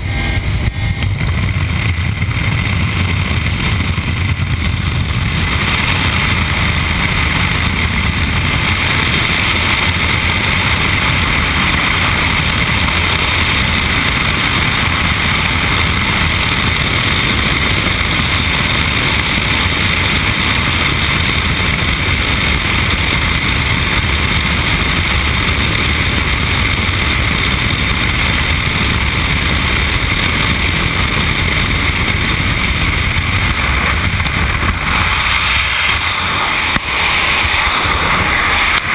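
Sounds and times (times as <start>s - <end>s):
propeller aircraft engine drone: 0.0s - 38.9s
rushing air: 0.0s - 38.9s.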